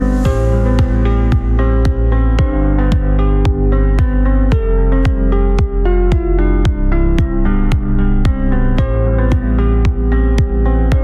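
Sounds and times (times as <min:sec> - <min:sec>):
electronic music kick drum: 0:00.0 - 0:11.0.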